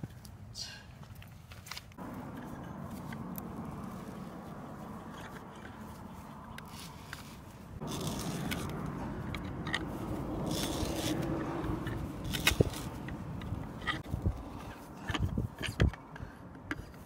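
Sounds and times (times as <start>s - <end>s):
hand auger grinding into wood: 2.3s - 17.0s.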